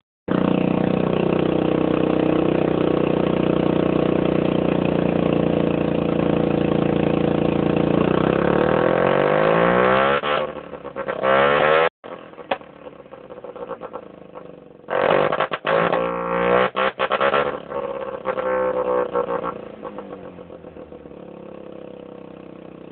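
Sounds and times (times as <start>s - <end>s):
rotary engine revving and idling: 0.3s - 22.9s.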